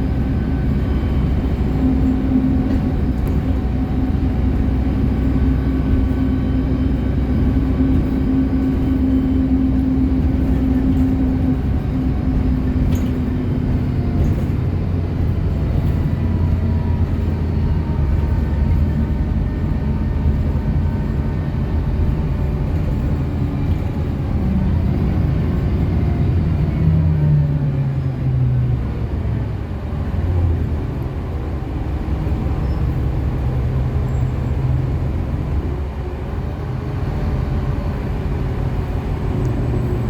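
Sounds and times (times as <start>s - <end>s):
bus engine drone: 0.0s - 40.0s
road rumble: 0.0s - 40.0s.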